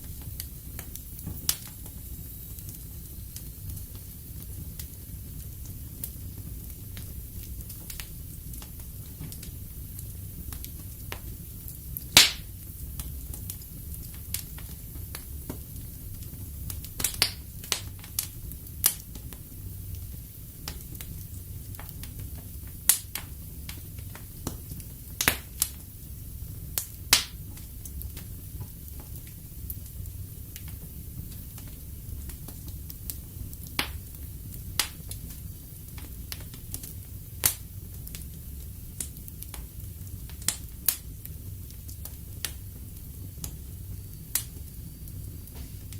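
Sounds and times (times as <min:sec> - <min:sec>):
low rumble of flames: 0:00.0 - 0:45.9
wood fire crackling and popping: 0:00.0 - 0:45.9.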